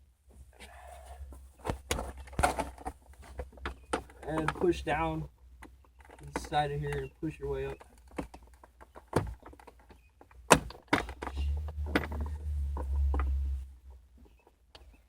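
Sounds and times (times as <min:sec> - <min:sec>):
low rumble of handling: 0:00.2 - 0:15.0.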